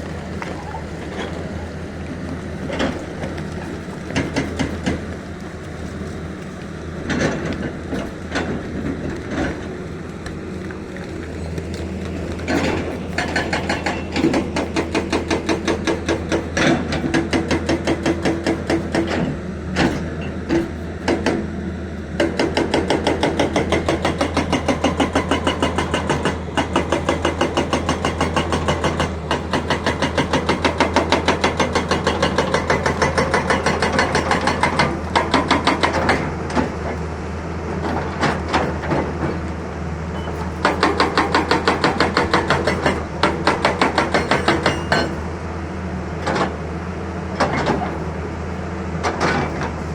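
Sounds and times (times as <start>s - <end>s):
hydraulic breaker hammering: 0.0s - 5.4s, 11.6s - 46.6s
diesel engine drone: 0.0s - 49.9s.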